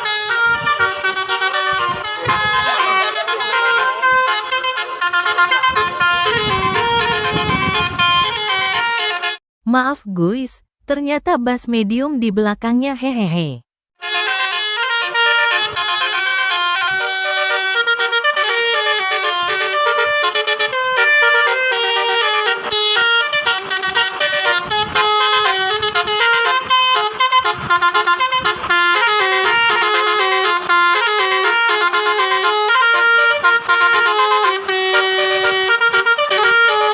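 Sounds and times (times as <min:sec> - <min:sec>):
bus musical air horn tune: 0:00.0 - 0:09.4, 0:14.0 - 0:36.9.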